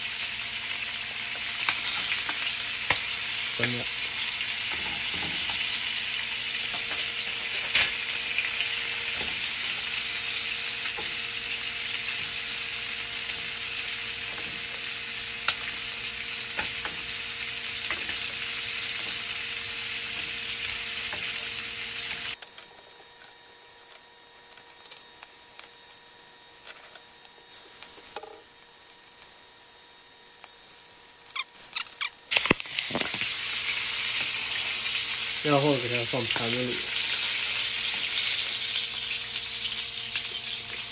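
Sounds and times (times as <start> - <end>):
meat sizzling in a frying pan: 0.0 - 40.9.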